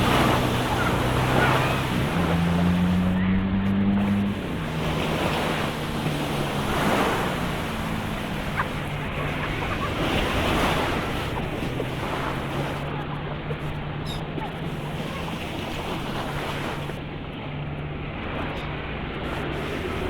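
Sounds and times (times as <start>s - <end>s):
low droning hum: 0.0s - 20.0s
sea waves washing on shore: 0.0s - 20.0s
wind buffeting microphone: 0.0s - 20.0s.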